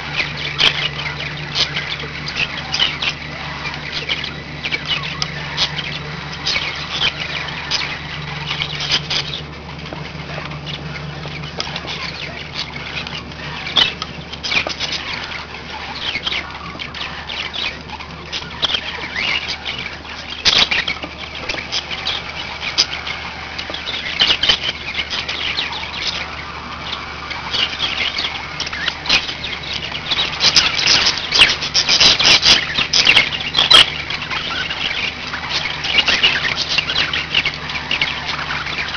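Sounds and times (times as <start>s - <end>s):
budgerigars chattering and chirping: 0.0s - 38.9s
steady low hum: 0.0s - 38.9s.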